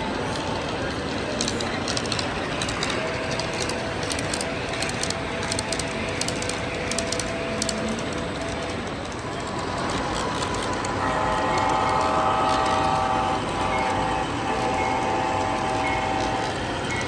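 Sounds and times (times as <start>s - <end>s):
model train wheels clicking: 0.0s - 17.0s
two-note hum: 3.2s - 17.0s.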